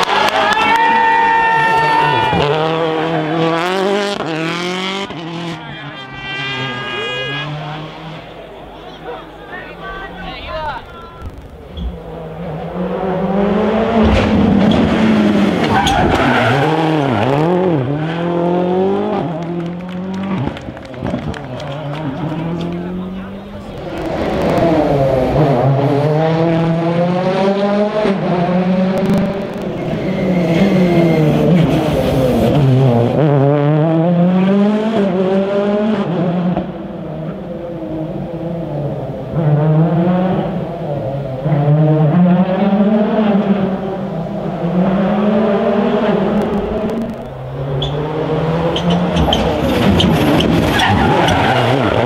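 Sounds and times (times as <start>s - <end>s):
rally car engine revving: 1.6s - 8.8s, 11.3s - 52.0s.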